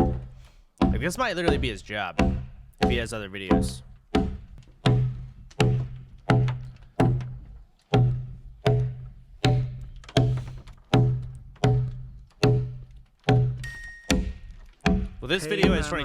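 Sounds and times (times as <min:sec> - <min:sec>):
hand tool striking wood log: 0:00.0 - 0:15.8.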